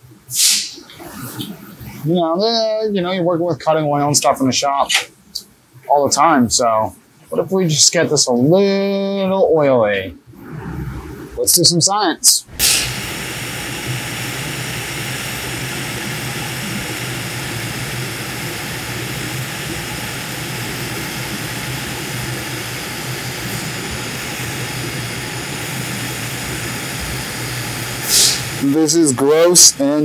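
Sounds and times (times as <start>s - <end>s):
welding arc hiss and buzz: 0.0s - 6.7s, 12.2s - 30.0s
constant low hum: 0.0s - 30.0s.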